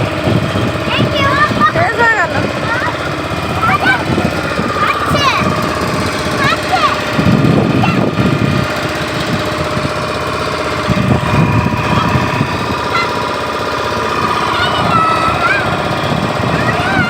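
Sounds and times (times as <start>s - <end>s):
small engine rattling: 0.0s - 17.0s.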